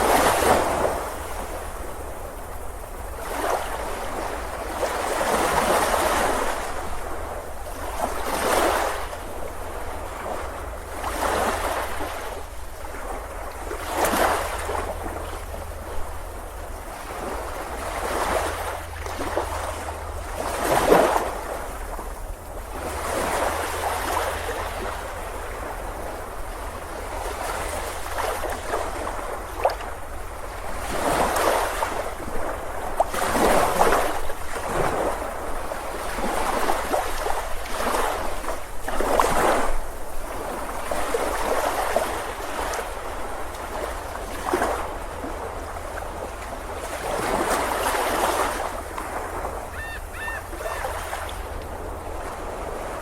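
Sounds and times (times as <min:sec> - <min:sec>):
waves breaking on a beach: 0:00.0 - 0:53.0.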